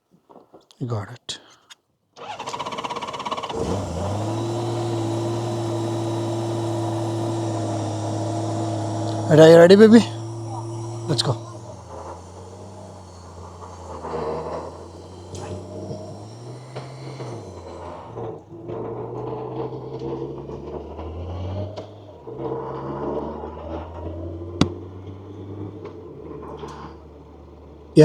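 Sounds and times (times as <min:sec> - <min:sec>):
motorcycle engine humming: 0:02.2 - 0:28.0.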